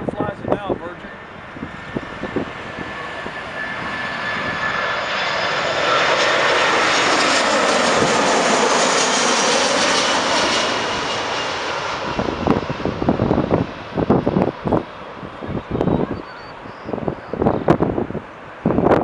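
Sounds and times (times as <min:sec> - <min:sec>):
jet airliner passing overhead: 0:00.0 - 0:19.0
wind gusts on microphone: 0:00.0 - 0:19.0.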